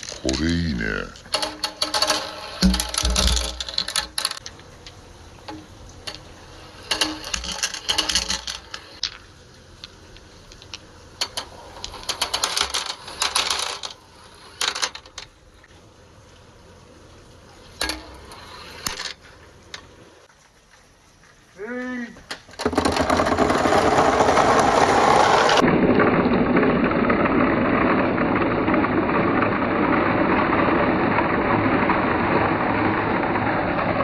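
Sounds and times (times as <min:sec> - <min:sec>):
marbles clattering along a run: 0:00.0 - 0:15.4, 0:17.7 - 0:20.0, 0:22.6 - 0:34.0.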